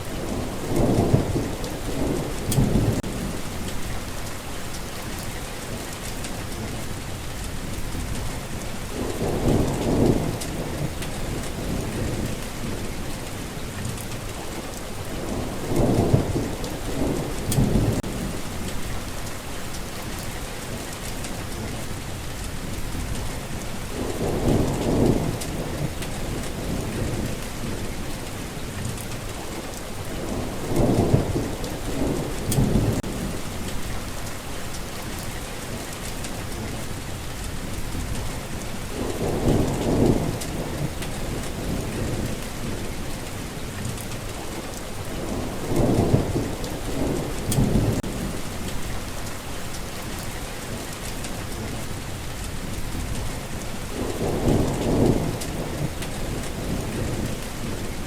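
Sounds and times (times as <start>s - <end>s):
low thunder rumbling: 0.0s - 58.0s
steady rain falling: 0.0s - 58.0s.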